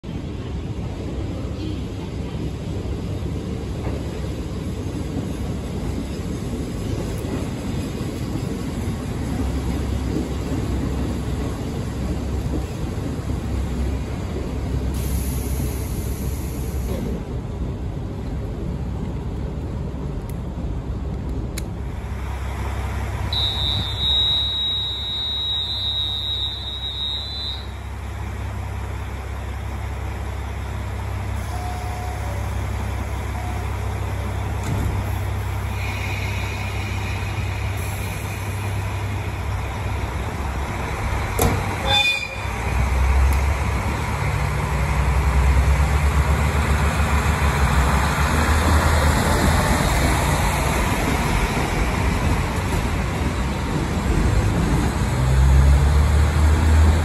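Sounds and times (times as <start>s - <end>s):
diesel railcar rumbling: 0.0s - 57.0s.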